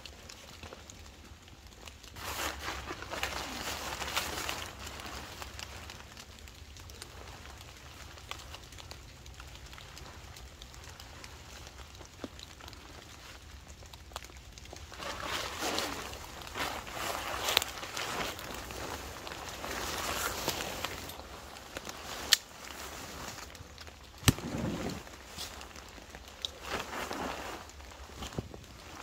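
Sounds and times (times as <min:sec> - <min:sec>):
rain poncho rustling: 0:00.0 - 0:29.0.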